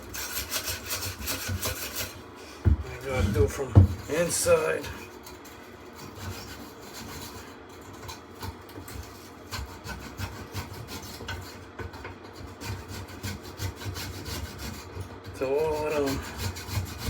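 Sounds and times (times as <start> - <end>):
brush scrubbing metal fins: 0.0 - 17.0.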